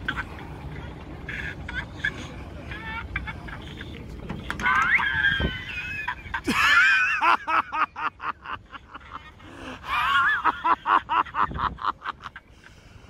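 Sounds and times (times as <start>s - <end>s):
person laughing: 1.2s - 12.4s.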